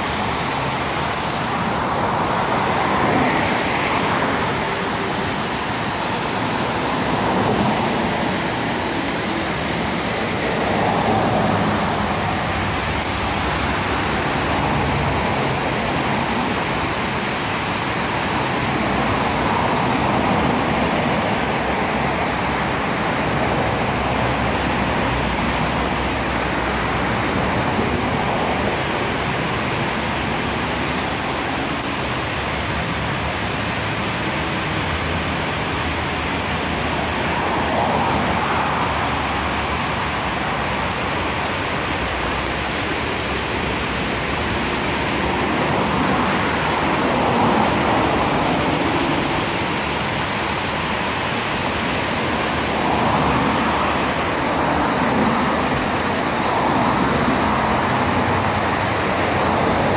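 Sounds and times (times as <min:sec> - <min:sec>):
river water rushing over weir: 0:00.0 - 0:59.9.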